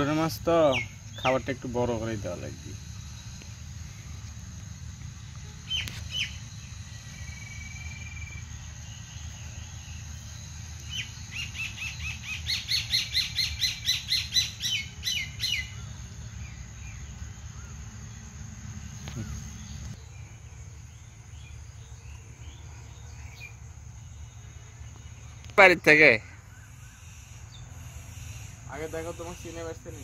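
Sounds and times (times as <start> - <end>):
bird calling: 0.0 - 18.2, 18.8 - 20.4, 21.0 - 30.0.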